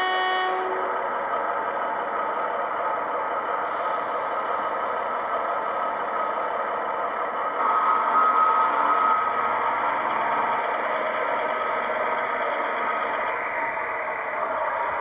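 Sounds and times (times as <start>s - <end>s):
model train diesel engine sound: 0.0s - 15.0s.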